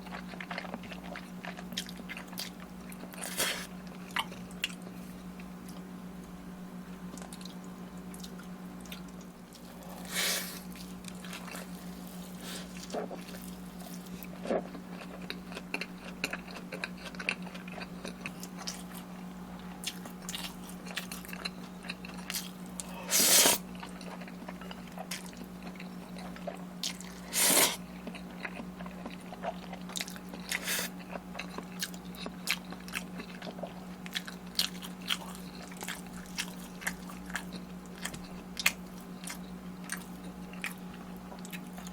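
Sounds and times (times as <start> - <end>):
person chewing and biting: 0.0 - 5.0, 7.1 - 19.1, 19.8 - 41.9
steady low hum: 0.0 - 41.9.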